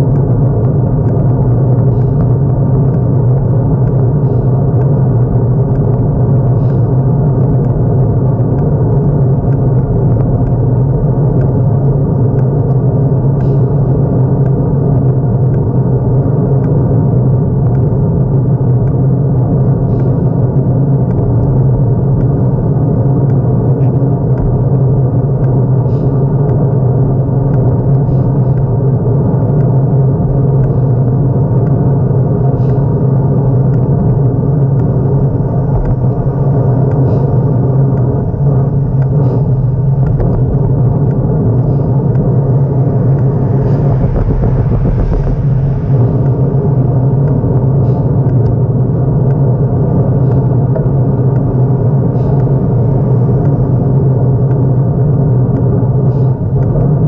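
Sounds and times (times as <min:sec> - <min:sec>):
wind and road rumble: 0:00.0 - 0:57.0.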